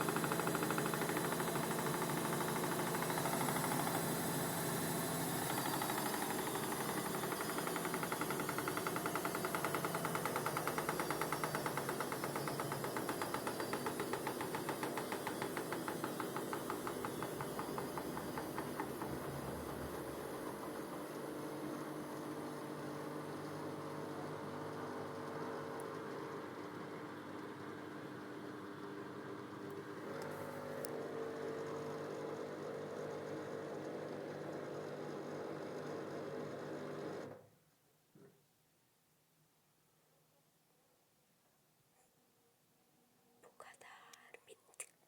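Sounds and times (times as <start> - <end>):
washing machine drum whirring: 0.0 - 37.4.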